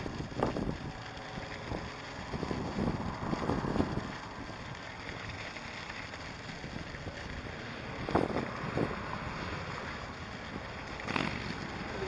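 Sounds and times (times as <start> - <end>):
wind buffeting microphone: 0.0 - 5.4, 6.5 - 12.0.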